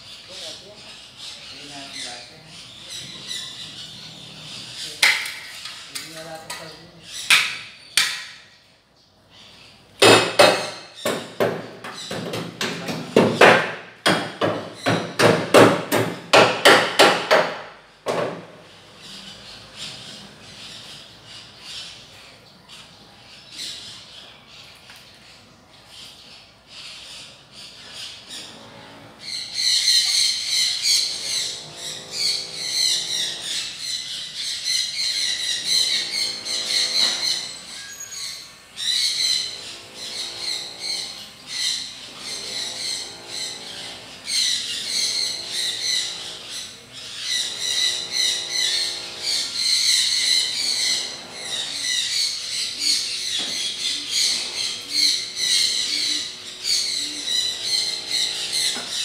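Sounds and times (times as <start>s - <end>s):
birds chirping and squawking: 0.0s - 59.0s.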